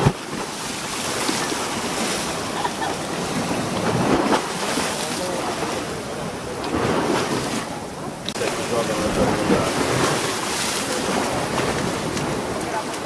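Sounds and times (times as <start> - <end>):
sea waves breaking: 0.0 - 13.0
wind buffeting microphone: 1.1 - 13.0.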